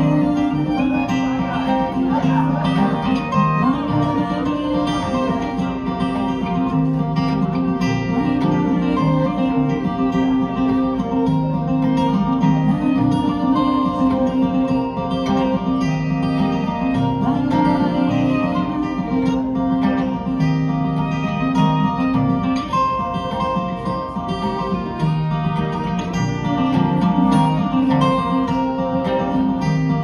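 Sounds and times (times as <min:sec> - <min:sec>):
acoustic guitars strumming: 0:00.0 - 0:30.0
bowed fiddle: 0:00.0 - 0:30.0.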